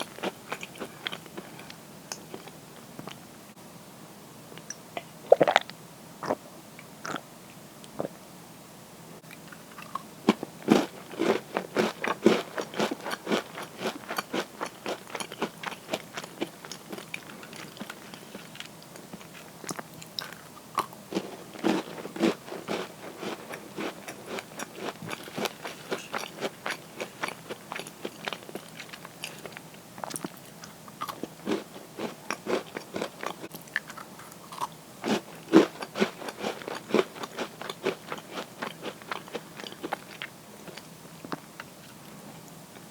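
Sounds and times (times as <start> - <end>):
crunching and chewing cookies: 0.0 - 3.2, 9.2 - 42.9.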